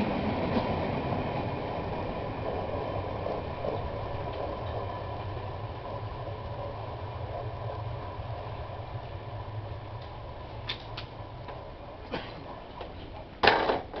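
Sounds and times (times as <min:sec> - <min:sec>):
electric train humming: 0:00.0 - 0:14.0.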